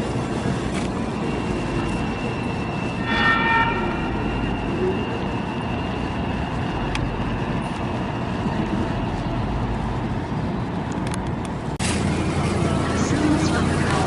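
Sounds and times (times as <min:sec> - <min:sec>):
light rail train rumbling: 0:00.0 - 0:14.0
street traffic: 0:00.0 - 0:14.0.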